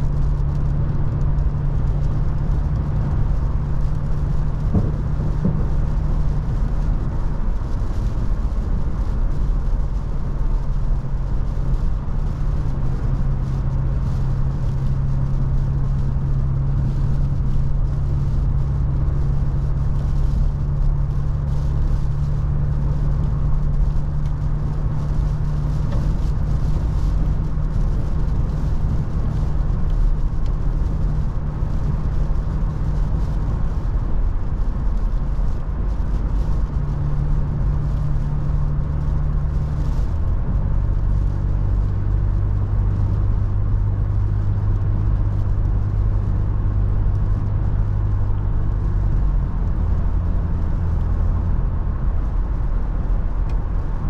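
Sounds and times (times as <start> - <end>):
car engine hum: 0.0 - 54.0
road and wind noise: 0.0 - 54.0.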